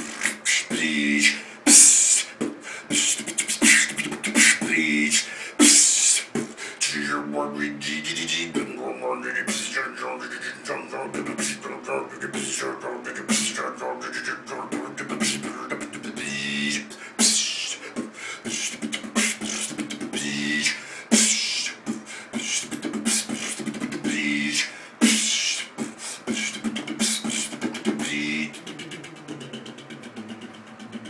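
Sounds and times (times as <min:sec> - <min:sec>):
low held vocal tone: 0:00.0 - 0:31.0
man beatboxing: 0:00.0 - 0:31.0.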